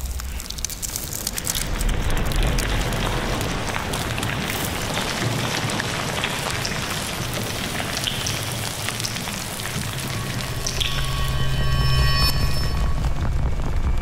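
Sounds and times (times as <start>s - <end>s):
rain-like hiss and crackle: 0.0s - 14.0s.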